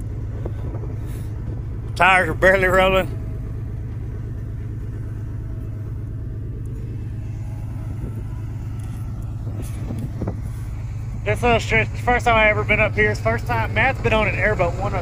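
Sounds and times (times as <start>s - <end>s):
pickup engine rumbling: 0.0s - 15.0s.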